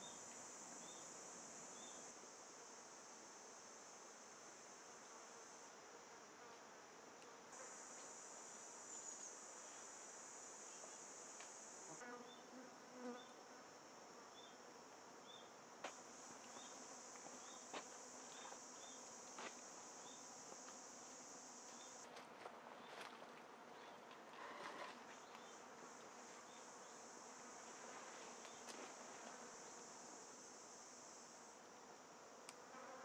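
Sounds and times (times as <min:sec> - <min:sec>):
insect buzzing: 0:00.0 - 0:22.1, 0:23.8 - 0:33.0.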